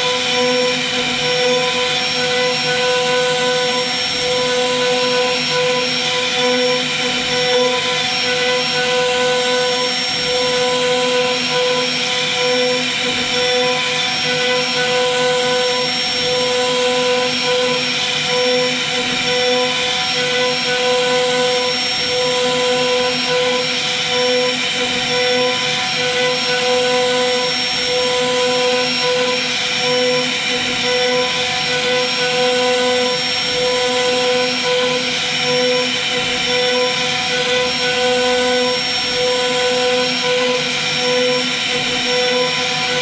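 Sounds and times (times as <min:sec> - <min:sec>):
router spindle whining: 0:00.0 - 0:43.0.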